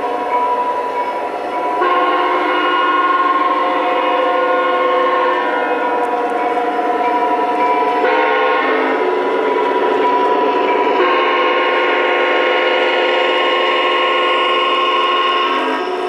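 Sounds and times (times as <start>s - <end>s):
model train horn blasts: 1.7s - 7.0s, 8.0s - 16.0s.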